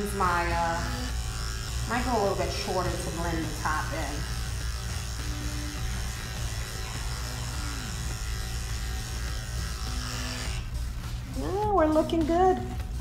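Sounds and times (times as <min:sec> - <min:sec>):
electric clippers buzzing: 0:00.0 - 0:13.0.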